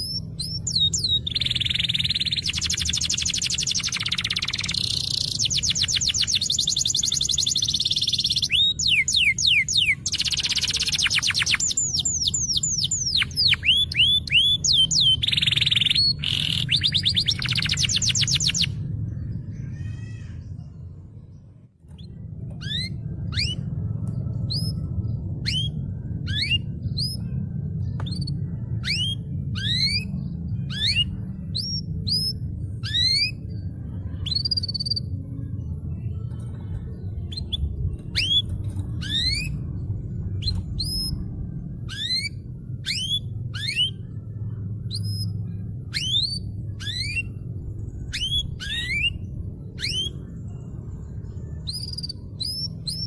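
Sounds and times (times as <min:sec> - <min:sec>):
canary singing: 0:00.0 - 0:35.2, 0:35.9 - 0:53.0
steady low rumble: 0:00.0 - 0:53.0.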